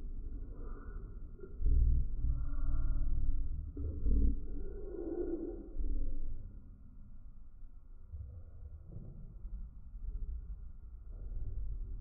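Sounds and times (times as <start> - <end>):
deep slowed-down rumble: 0.0 - 12.0.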